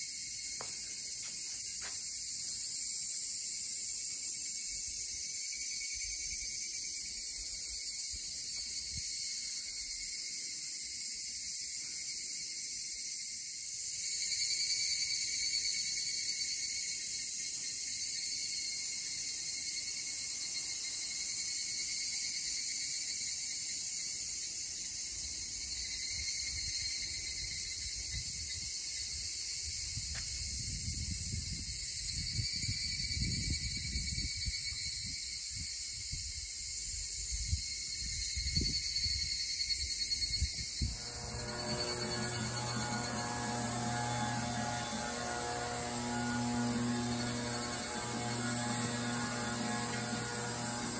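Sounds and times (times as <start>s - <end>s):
insects chirping shrill: 0.0s - 50.9s.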